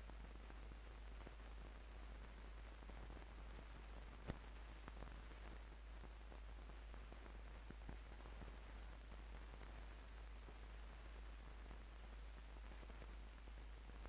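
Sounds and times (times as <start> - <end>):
old film soundtrack hiss and hum: 0.0 - 14.0.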